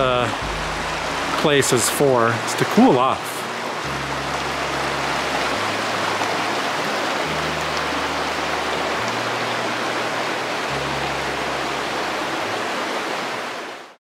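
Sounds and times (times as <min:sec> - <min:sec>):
soft background music: 0:00.0 - 0:13.9
creek water rushing: 0:00.0 - 0:14.0.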